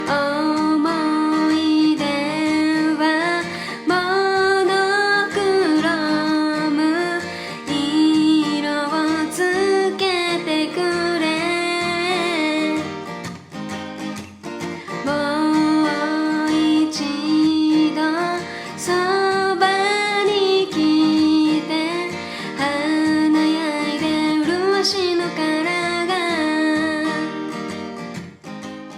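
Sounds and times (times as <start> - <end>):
woman singing: 0.0 - 13.1, 14.7 - 27.8
strummed acoustic guitar: 0.0 - 28.9.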